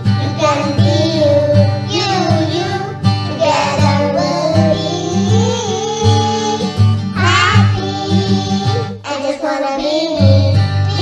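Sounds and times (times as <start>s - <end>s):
children's choir singing: 0.0s - 11.0s
guitar accompaniment: 0.0s - 11.0s.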